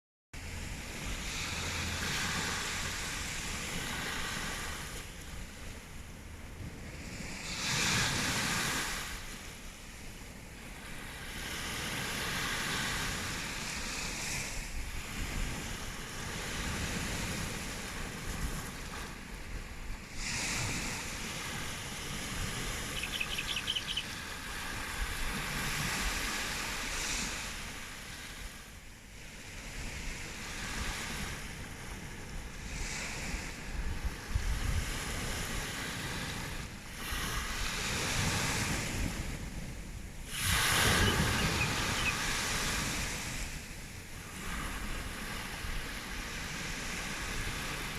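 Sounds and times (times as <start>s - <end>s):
ocean waves on sandy beach: 0.4s - 47.9s.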